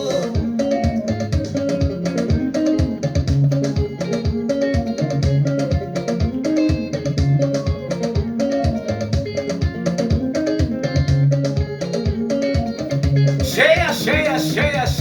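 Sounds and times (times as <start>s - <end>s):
upbeat gospel music: 0.0s - 15.0s.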